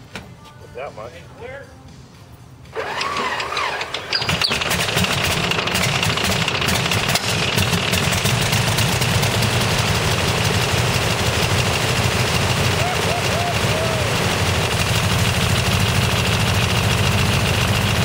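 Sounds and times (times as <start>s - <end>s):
radial engine starting and running: 2.7s - 18.0s.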